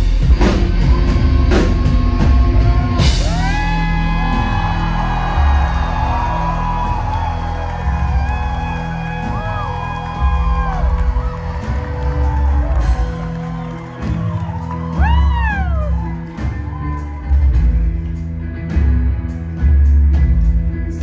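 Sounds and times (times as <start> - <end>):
instrumental rock band playing: 0.0 - 21.0.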